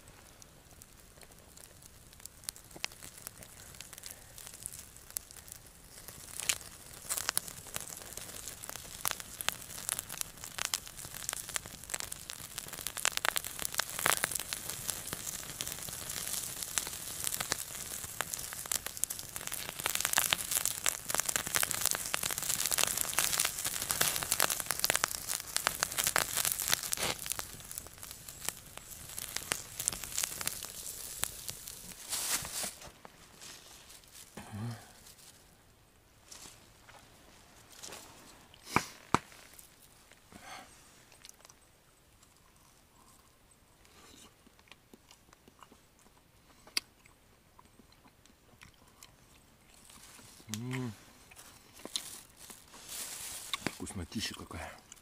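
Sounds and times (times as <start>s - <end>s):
pork fat sizzling and popping: 0.0s - 55.0s.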